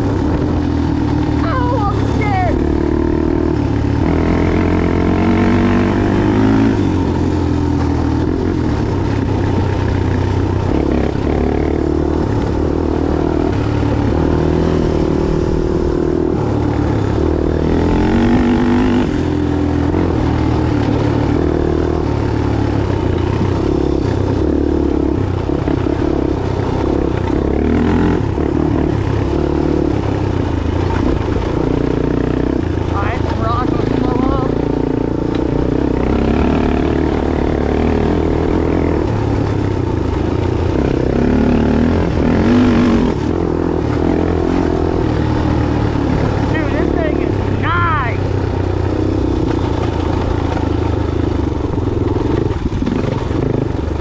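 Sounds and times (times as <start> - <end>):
off-road motorcycle engine revving: 0.0 - 54.0.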